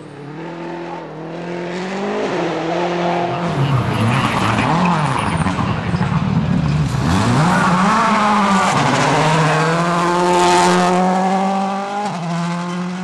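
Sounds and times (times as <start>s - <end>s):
rally car engine running hard: 0.0s - 13.0s.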